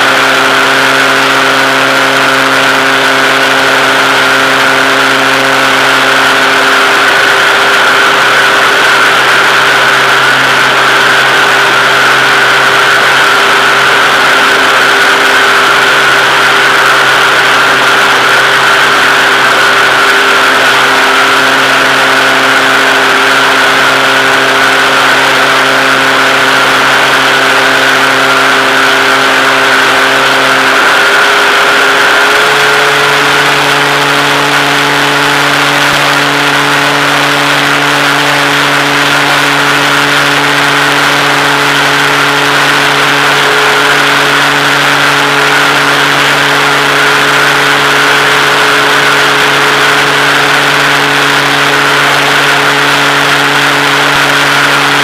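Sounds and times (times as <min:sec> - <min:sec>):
model airplane motor whine: 0:00.0 - 0:55.0.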